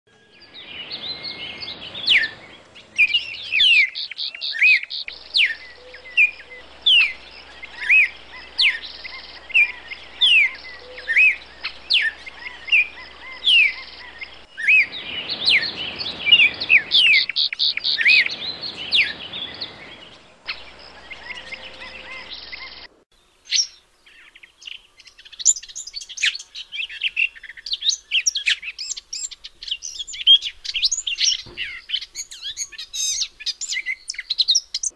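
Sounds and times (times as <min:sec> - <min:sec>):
songbirds singing: 0:00.1 - 0:34.9
faint hiss: 0:00.2 - 0:34.9.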